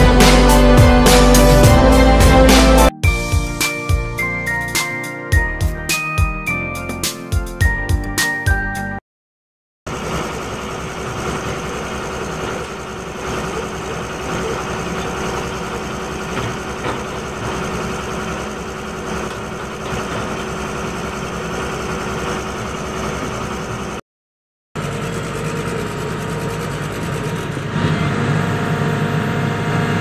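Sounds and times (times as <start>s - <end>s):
heavy diesel engines running: 0.0s - 4.7s, 9.9s - 24.0s, 24.8s - 30.0s.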